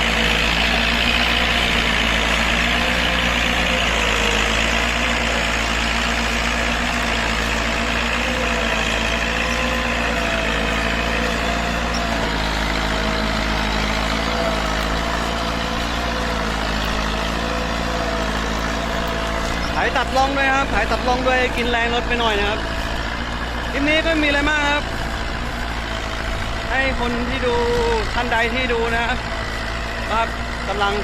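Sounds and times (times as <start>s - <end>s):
diesel tractor engine under load: 0.0s - 31.0s.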